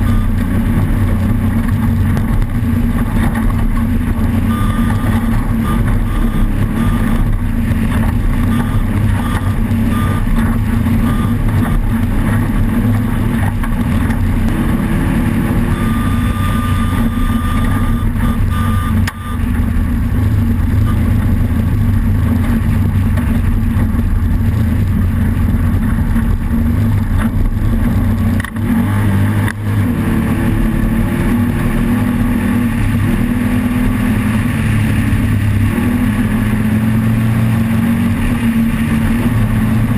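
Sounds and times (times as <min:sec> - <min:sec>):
race car engine running hard: 0:00.0 - 0:39.9
rush of noise: 0:00.0 - 0:39.9.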